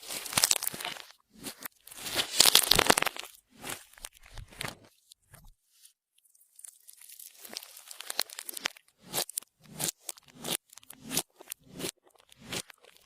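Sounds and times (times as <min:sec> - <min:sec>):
slime crackling and popping: 0:00.0 - 0:04.6, 0:06.6 - 0:13.0
slime squishes: 0:00.0 - 0:05.6, 0:06.2 - 0:13.0.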